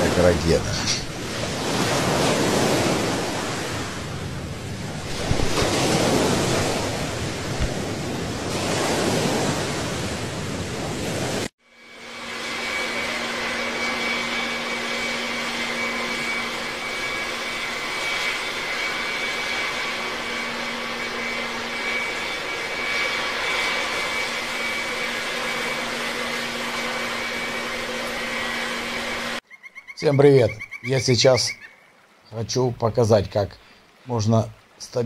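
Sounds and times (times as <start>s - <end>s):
faint high whine: 0.0s - 29.4s
jet engine and air rush: 0.0s - 29.4s
low hum: 0.0s - 29.4s.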